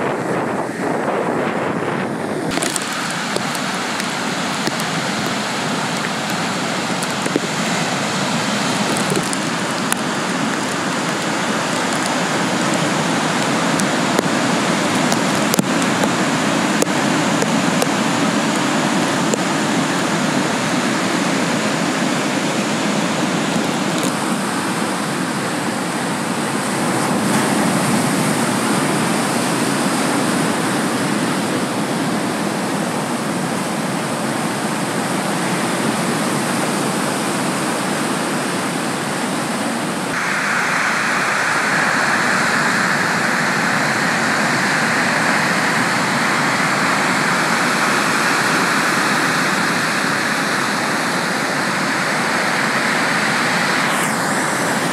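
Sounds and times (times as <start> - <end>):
sea surf breaking: 0.0 - 54.9.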